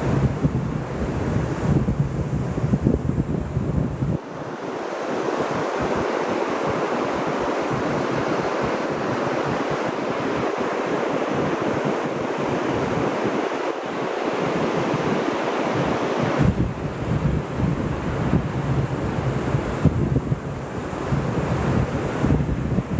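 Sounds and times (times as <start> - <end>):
wind buffeting microphone: 0.0 - 22.9
surf breaking on beach: 3.6 - 22.9.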